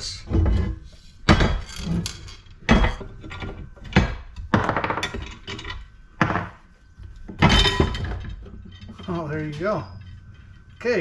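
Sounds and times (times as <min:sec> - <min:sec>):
metal knocks and clanks: 0:00.0 - 0:11.0.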